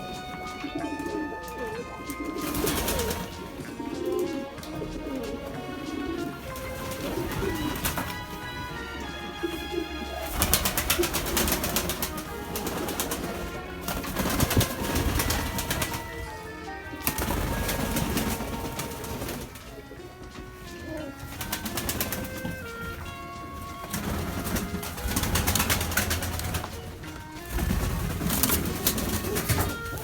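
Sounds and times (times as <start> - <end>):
background music: 0.0 - 30.0
pigeons cooing: 0.0 - 30.0.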